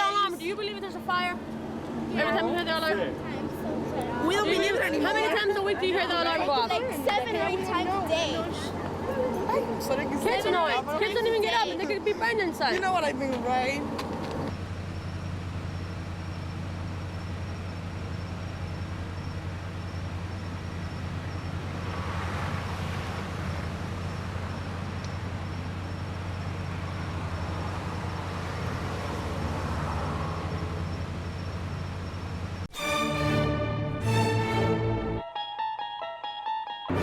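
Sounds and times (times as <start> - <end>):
low engine rumble: 0.0 - 32.7
traffic noise: 0.0 - 35.2.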